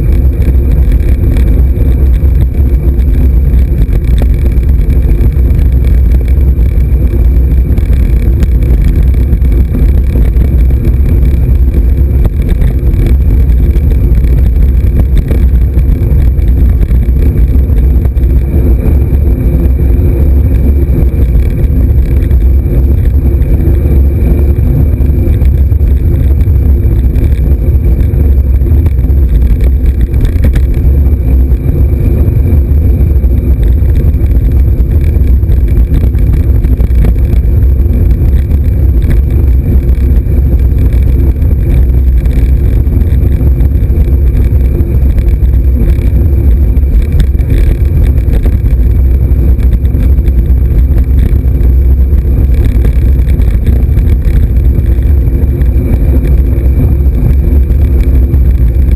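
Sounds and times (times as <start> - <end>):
wind rumbling on microphone: 0.0 - 58.9.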